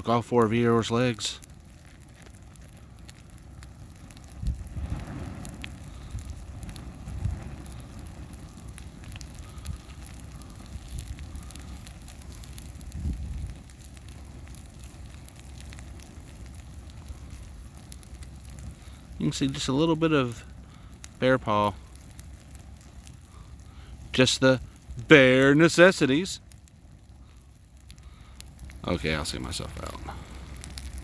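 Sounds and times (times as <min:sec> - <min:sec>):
fire crackling and popping: 0:00.0 - 0:31.0
low rumbles: 0:00.0 - 0:31.0.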